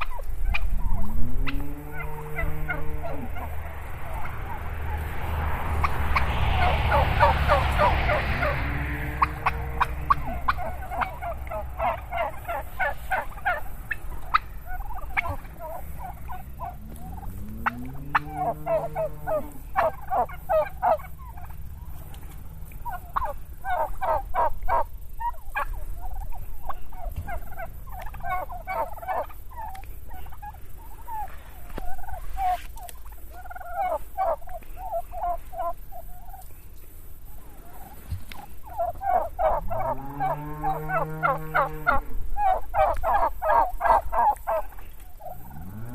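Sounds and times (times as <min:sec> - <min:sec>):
turkeys gobbling: 0:00.0 - 0:45.9.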